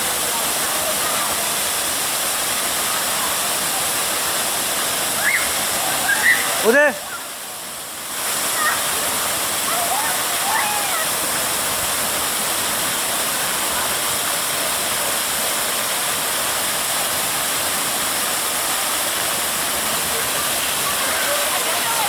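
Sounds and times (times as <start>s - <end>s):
waterfall pouring: 0.0s - 22.0s.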